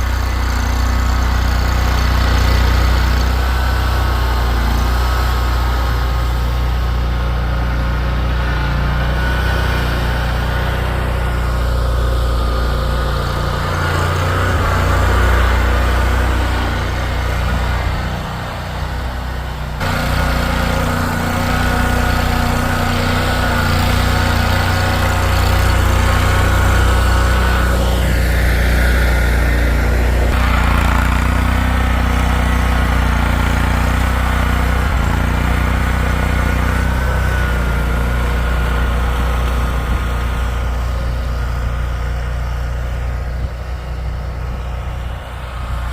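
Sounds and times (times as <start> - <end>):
vehicle engine droning: 0.0 - 45.9.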